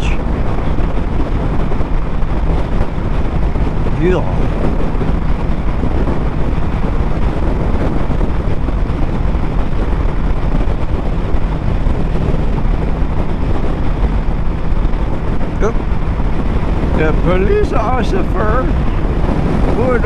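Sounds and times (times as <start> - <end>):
motorcycle engine drone: 0.0 - 20.0
wind rushing over microphone: 0.0 - 20.0.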